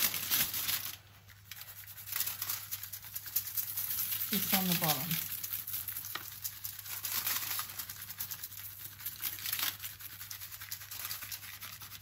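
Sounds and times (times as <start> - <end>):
dry granules pattering onto foil: 0.0 - 12.0
packet crinkling: 0.0 - 12.0.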